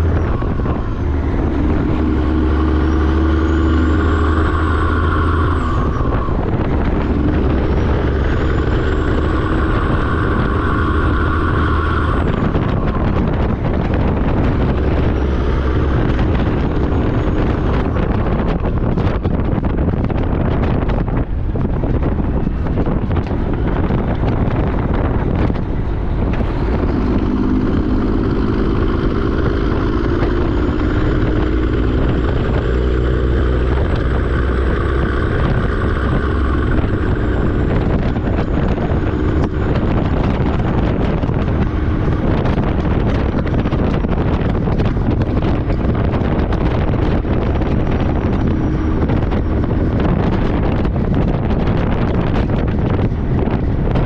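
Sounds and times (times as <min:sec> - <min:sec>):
truck engine and road noise: 0:00.0 - 0:54.0
wind buffeting microphone: 0:00.0 - 0:54.0.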